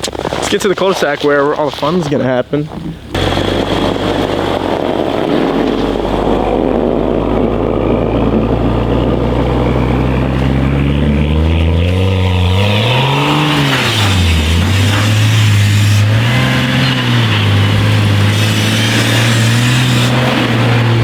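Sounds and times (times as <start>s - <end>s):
car engine revving: 2.9s - 21.0s
rushing noise: 3.2s - 21.0s.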